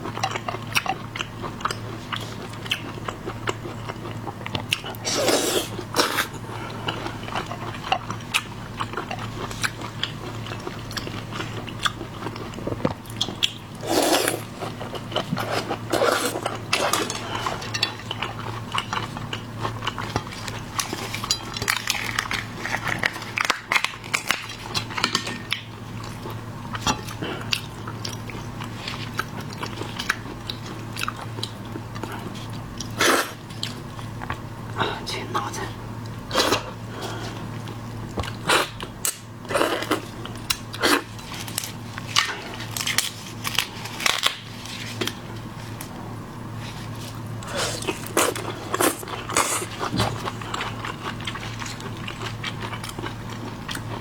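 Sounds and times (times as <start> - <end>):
chewing shellfish: 0.0 - 34.5, 36.0 - 54.0.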